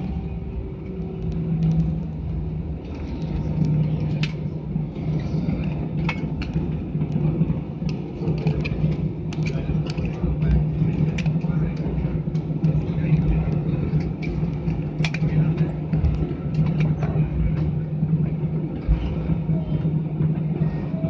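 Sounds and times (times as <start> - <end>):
aircraft engines idling hum: 0.0 - 21.0.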